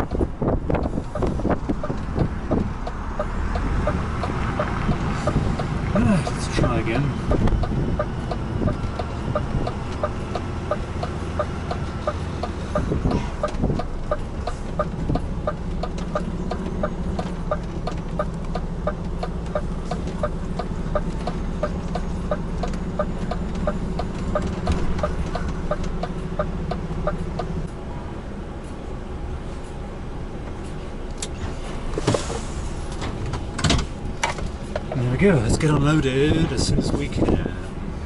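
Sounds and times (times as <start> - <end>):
truck engine running slowly: 0.0 - 36.3.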